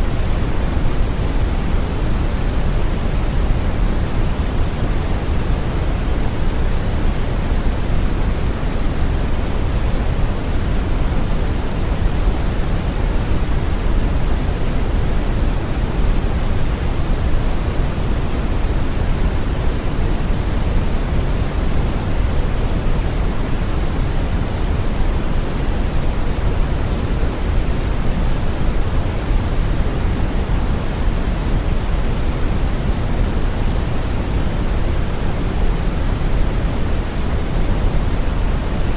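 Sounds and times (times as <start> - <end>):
brown noise rumbling hiss: 0.0 - 38.9.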